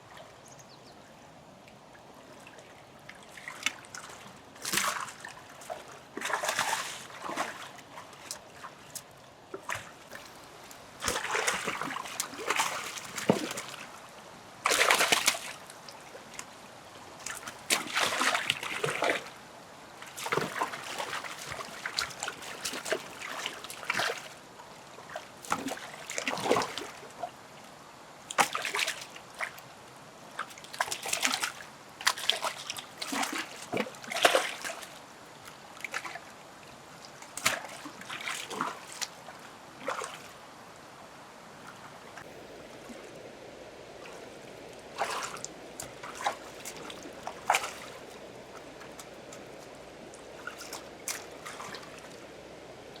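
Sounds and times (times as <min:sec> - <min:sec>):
water splashing and sloshing: 0:01.7 - 0:53.0.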